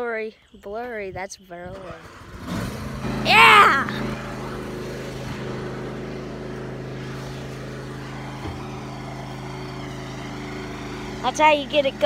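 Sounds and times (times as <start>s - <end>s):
riding lawnmower engine running: 1.7s - 12.0s.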